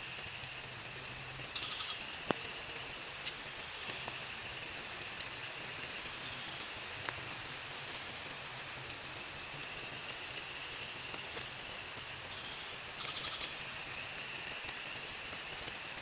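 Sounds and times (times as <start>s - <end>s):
steady rain in forest: 0.0s - 16.0s.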